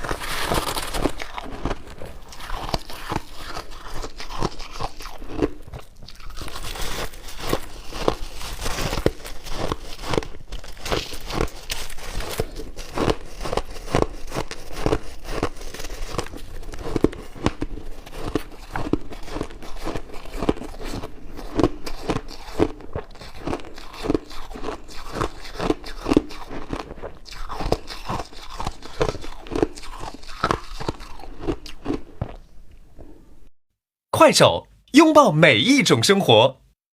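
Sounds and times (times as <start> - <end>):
ice being chewed: 0.0 - 32.5.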